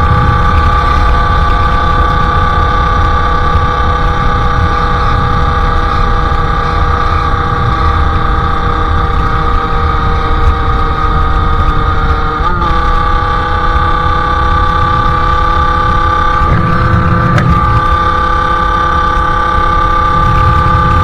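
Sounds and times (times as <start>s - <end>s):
two-stroke motorcycle engine: 0.0s - 21.0s.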